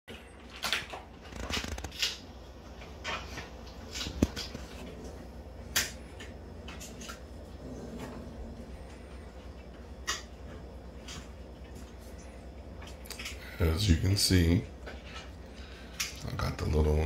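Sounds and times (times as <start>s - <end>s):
puppies chewing crunchy treats: 0.1s - 17.0s.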